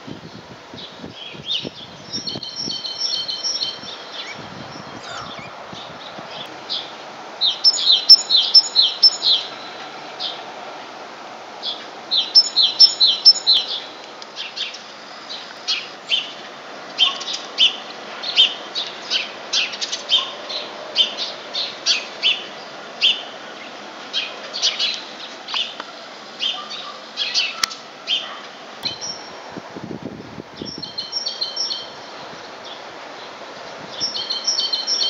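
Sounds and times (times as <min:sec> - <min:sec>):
steady background noise: 0:00.0 - 0:35.0
birds chirping: 0:00.8 - 0:10.5, 0:11.6 - 0:29.5, 0:30.3 - 0:35.0.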